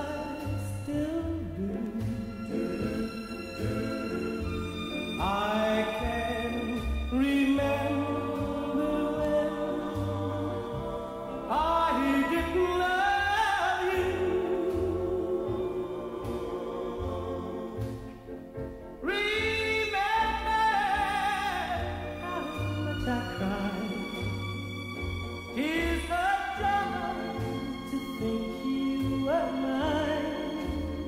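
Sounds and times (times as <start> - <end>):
steady bass line: 0.0 - 29.2
slow song with wavering melody: 0.0 - 31.0.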